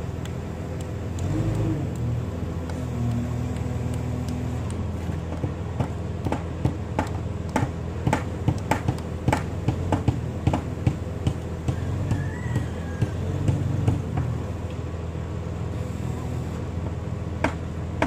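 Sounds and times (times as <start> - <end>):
heavy machine engine humming: 0.0 - 18.0.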